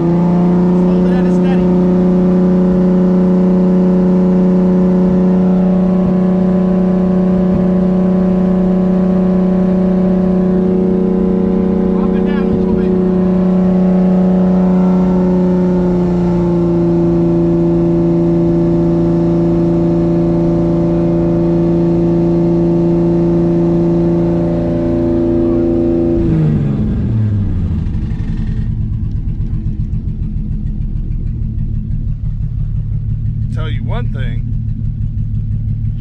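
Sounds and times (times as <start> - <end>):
car engine revving and idling: 0.0 - 36.0.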